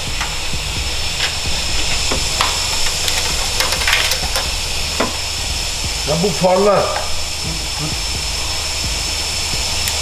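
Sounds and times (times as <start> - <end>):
low hum: 0.0 - 10.0
workshop background hiss: 0.0 - 10.0.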